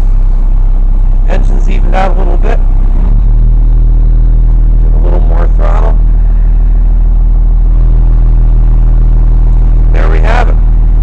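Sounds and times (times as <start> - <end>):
diesel bus engine running: 0.0 - 11.0.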